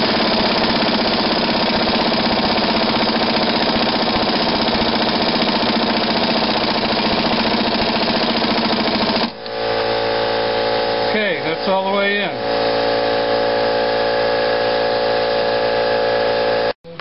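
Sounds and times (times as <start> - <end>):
air impact wrench hammering: 0.0 - 16.8.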